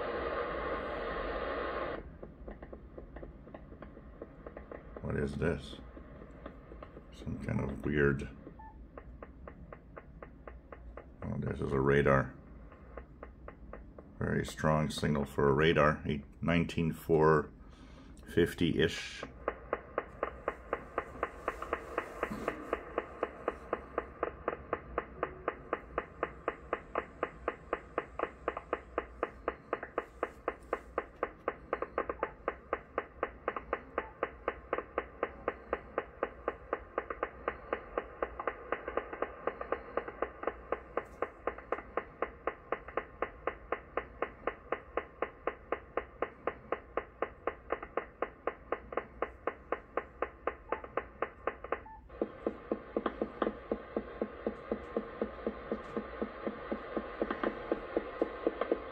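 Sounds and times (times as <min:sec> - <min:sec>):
rapid radio clicks: 0:00.0 - 0:17.4, 0:18.0 - 0:58.9
faint radio band hiss: 0:00.0 - 0:58.9.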